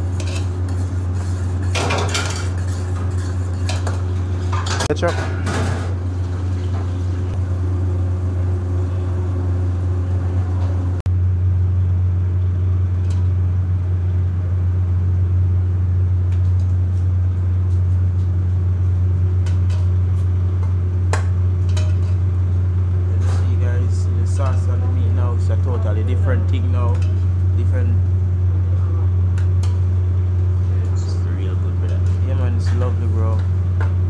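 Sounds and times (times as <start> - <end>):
kitchen equipment humming: 0.0 - 16.4, 18.6 - 34.0.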